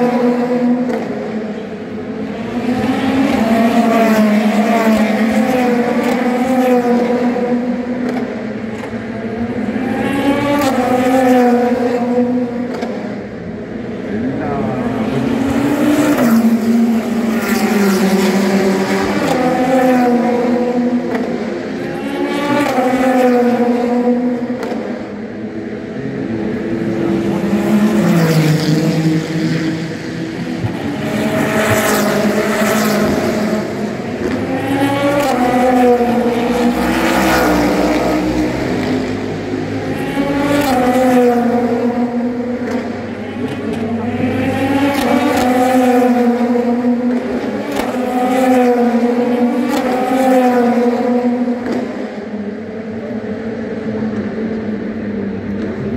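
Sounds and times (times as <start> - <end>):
race cars passing: 0.0 - 55.9.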